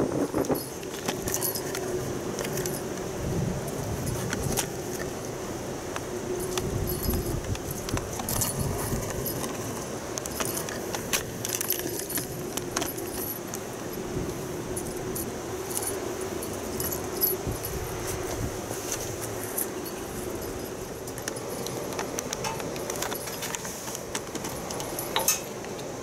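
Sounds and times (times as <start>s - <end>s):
cat collar bell jingling: 0.0s - 4.6s, 6.3s - 25.6s.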